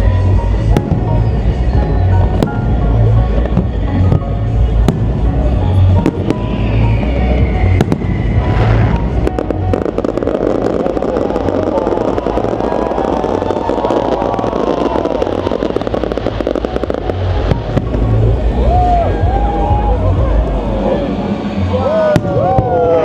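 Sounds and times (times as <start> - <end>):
fireworks deep booms: 0.0 - 23.0.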